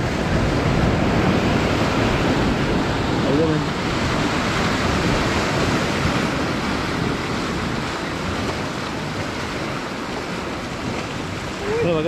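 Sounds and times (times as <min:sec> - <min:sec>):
surf breaking over rocks: 0:00.0 - 0:12.0.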